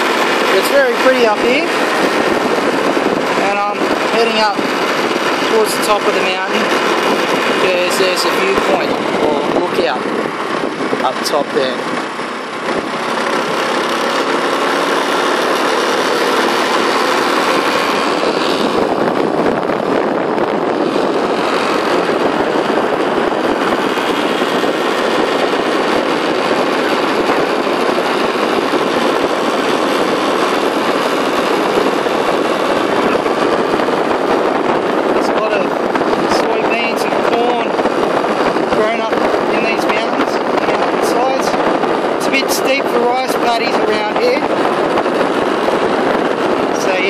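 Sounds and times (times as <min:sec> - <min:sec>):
motorbike engine running: 0:00.0 - 0:47.0
wind rushing on microphone: 0:00.0 - 0:47.0.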